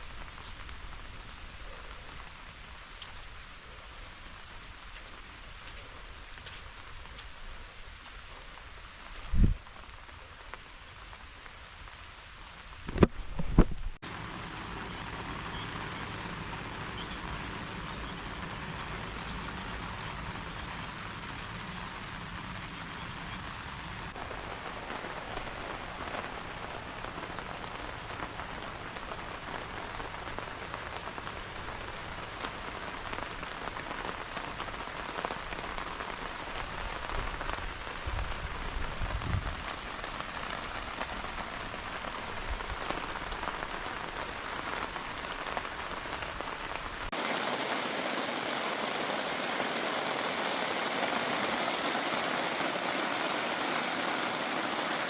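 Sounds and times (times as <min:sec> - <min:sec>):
heavy rain falling: 0:00.0 - 0:12.9, 0:14.0 - 0:55.0.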